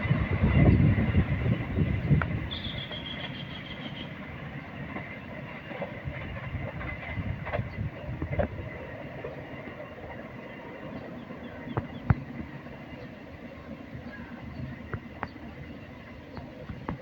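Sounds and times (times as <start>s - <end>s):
wheels clicking on rails: 0.0s - 13.2s, 13.9s - 17.0s
train rumbling on track: 0.0s - 17.0s.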